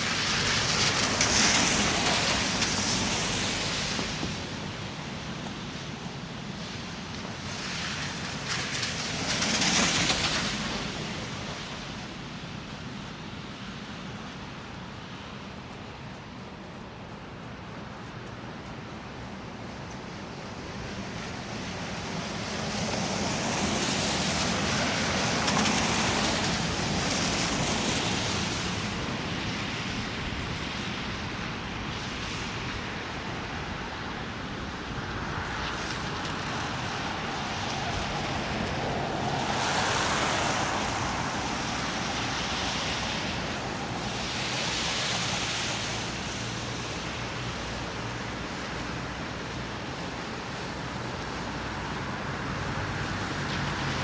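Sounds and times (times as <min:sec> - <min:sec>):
low traffic rumble: 0:00.0 - 0:54.0
tyre hiss on wet road: 0:00.0 - 0:54.0.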